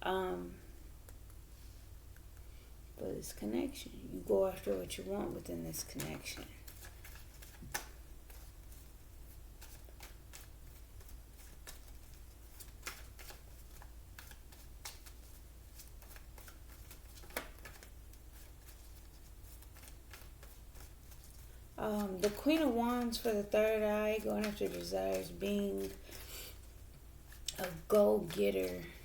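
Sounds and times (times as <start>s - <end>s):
low steady hum: 0.0s - 29.0s
cards being shuffled: 4.6s - 29.0s.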